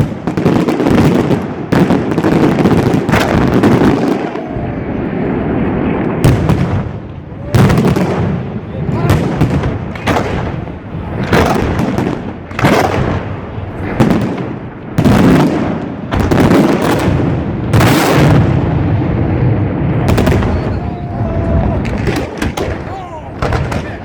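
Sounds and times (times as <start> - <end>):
fireworks bangs with echo: 0.0 - 24.0.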